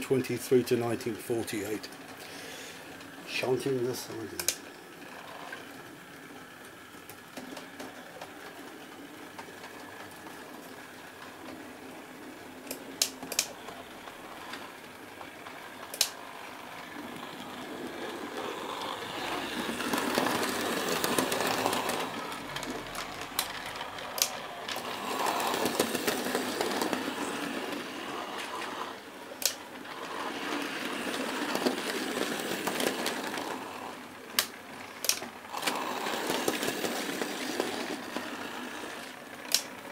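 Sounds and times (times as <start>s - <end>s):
model train motors whirring: 0.0s - 39.9s.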